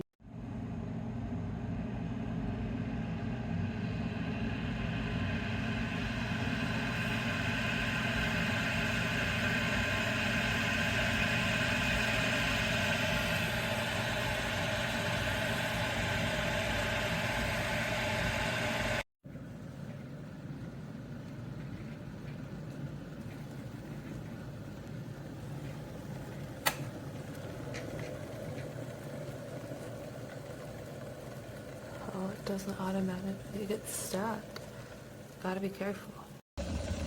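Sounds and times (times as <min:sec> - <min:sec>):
electric kettle heating water: 0:00.3 - 0:37.0.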